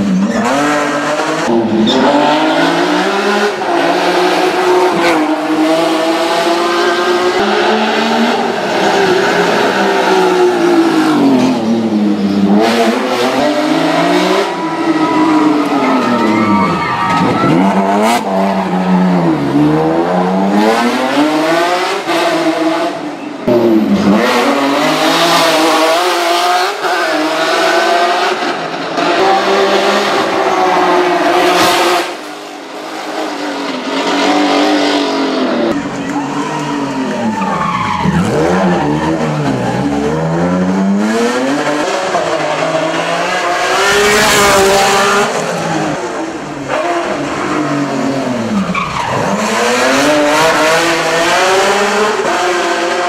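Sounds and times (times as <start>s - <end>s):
race car engines at full throttle: 0.0s - 53.0s.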